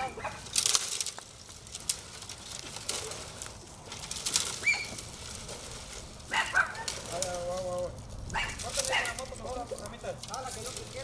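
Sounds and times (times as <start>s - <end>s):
branches dragged through grass: 0.0s - 11.0s.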